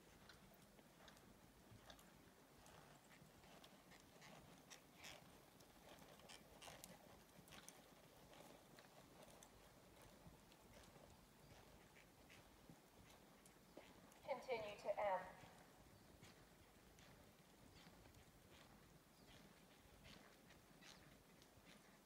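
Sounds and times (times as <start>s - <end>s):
horse hoofbeats on sand: 0.0s - 22.0s.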